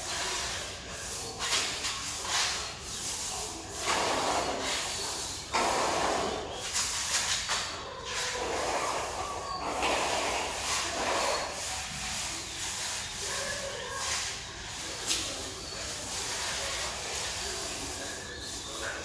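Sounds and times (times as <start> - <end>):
hand sanding on a wall: 0.0 - 19.0.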